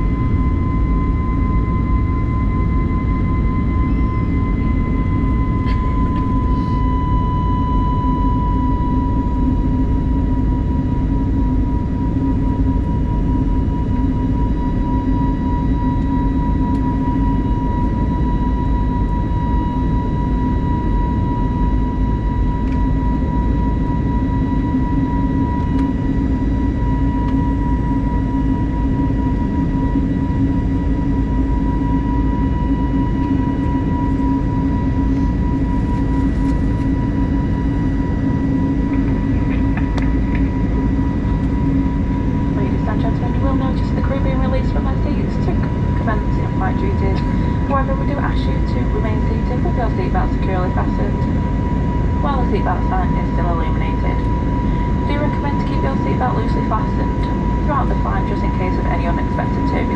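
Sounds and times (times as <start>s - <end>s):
jet engine drone in cabin: 0.0s - 59.9s.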